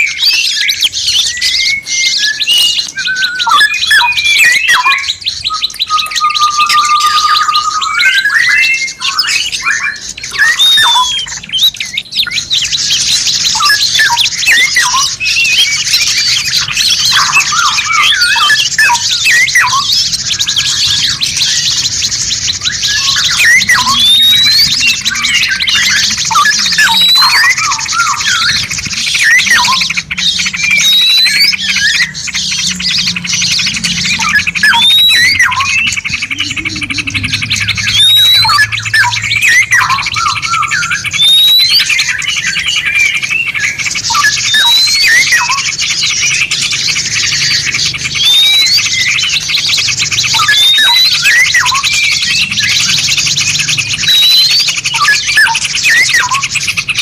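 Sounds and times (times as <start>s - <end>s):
high fast bird trill: 0.0s - 57.0s
long rising bird whistle: 0.0s - 57.0s
songbirds singing: 0.0s - 57.0s.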